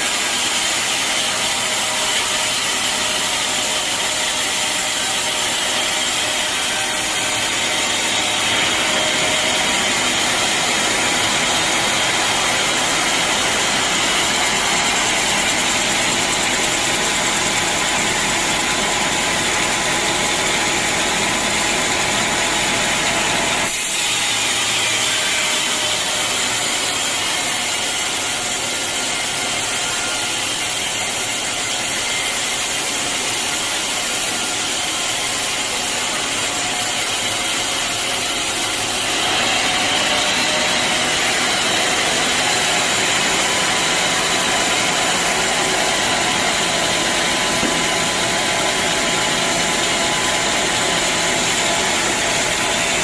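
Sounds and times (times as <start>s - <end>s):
band saw cutting log: 0.0s - 53.0s.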